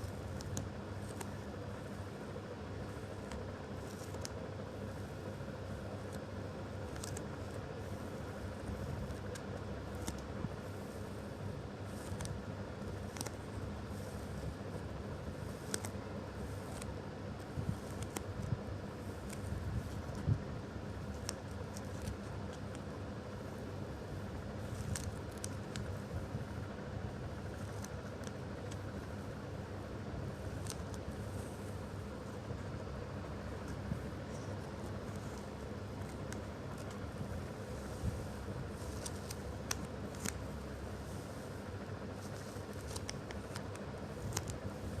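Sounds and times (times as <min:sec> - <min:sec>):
tacky foam crackles and clicks: 0:00.0 - 0:23.3, 0:23.9 - 0:45.0
steady low hum: 0:00.0 - 0:45.0.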